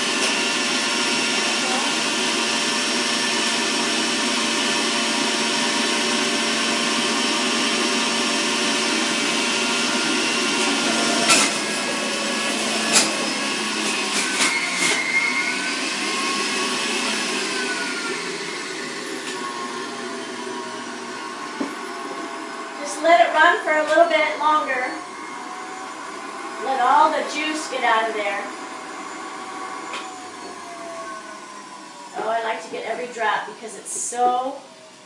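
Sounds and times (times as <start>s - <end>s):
juicer motor whining: 0.0s - 35.0s.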